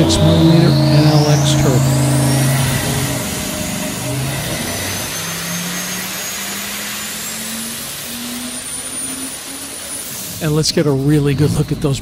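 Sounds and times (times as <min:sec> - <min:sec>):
engine roaring on dyno: 0:00.0 - 0:12.0
turbo whine rising: 0:00.0 - 0:12.0.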